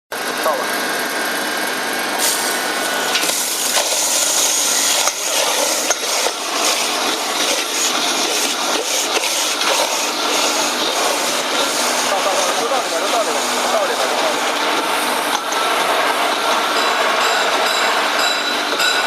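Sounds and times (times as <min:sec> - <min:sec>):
bone crusher grinding: 0:03.1 - 0:19.0.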